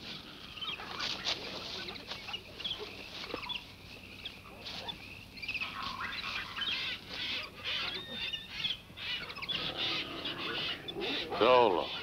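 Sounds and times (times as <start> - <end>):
jungle birds chirping: 0.0 - 12.0.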